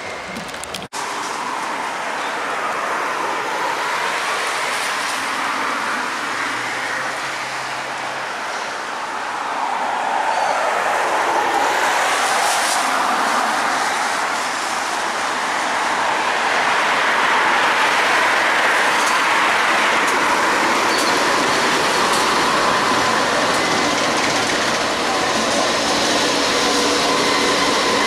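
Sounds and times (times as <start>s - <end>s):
freight train on rail bridge: 0.0s - 28.0s.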